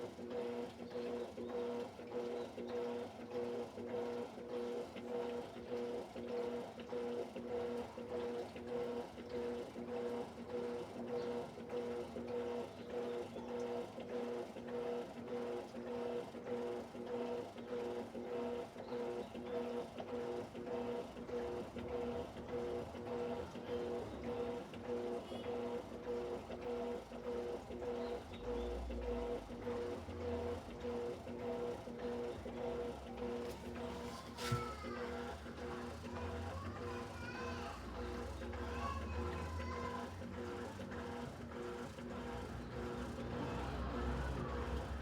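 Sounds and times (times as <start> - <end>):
washing machine agitating: 0.0 - 45.0.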